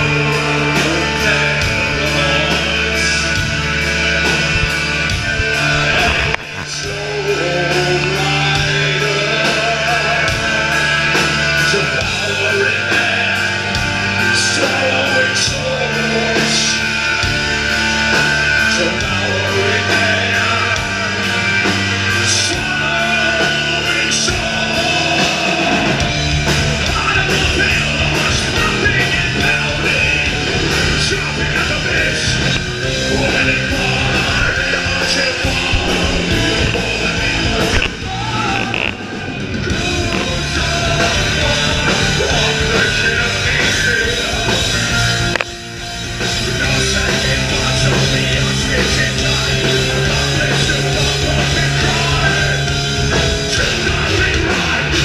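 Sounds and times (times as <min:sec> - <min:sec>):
bass guitar: 0:00.0 - 0:55.0
drums: 0:00.0 - 0:55.0
electric guitar: 0:00.0 - 0:55.0.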